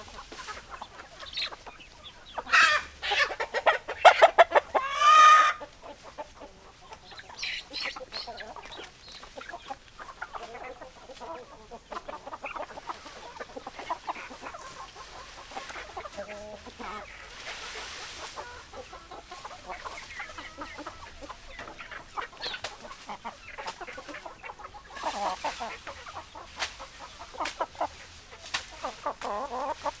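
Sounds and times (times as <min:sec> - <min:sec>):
hens clucking: 0:00.0 - 0:30.0.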